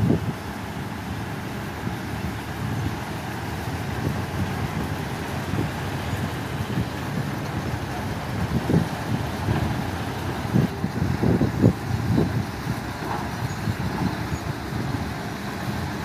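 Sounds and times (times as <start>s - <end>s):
heavy diesel engines rumbling: 0.0s - 16.0s.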